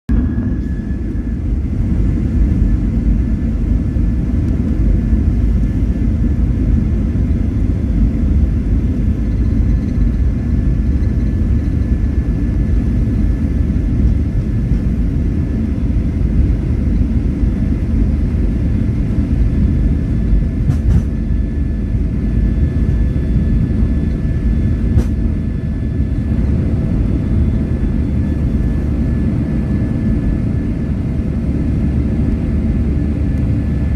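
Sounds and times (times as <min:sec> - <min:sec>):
jet engines rumbling: 0:00.1 - 0:33.9.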